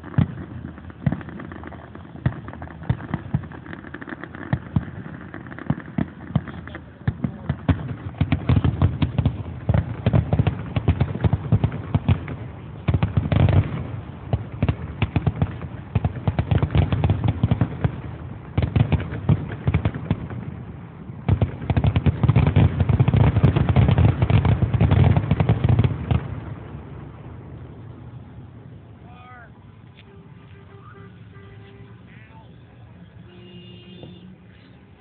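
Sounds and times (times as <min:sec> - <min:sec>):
fireworks cracking and banging: 0:00.0 - 0:35.0.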